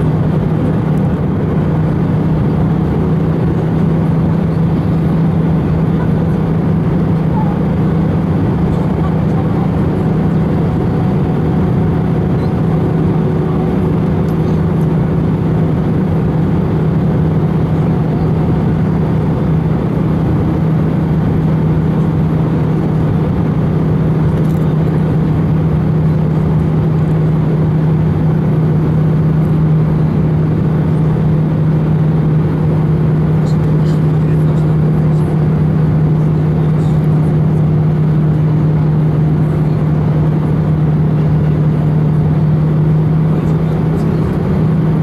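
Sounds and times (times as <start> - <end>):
aircraft cabin engine drone: 0.0 - 45.0.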